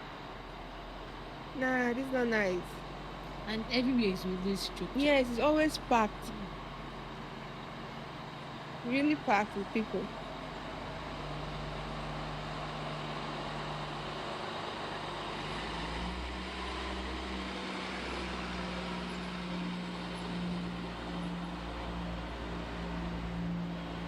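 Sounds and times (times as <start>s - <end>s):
street traffic: 0.0s - 24.0s
vehicle engine running: 0.0s - 24.0s.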